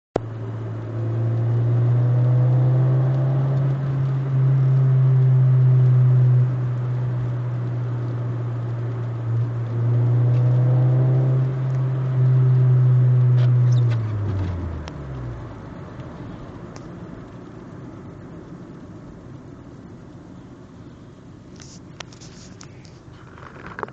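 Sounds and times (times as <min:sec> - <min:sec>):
car engine droning and revving: 0:00.2 - 0:21.4.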